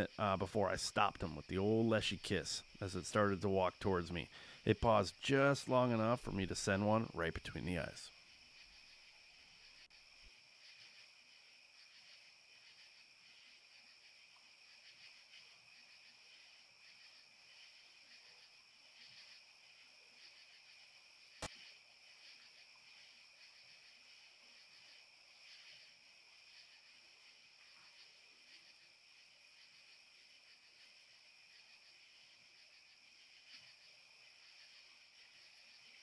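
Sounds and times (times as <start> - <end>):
night insects chirping: 0.0 - 36.0.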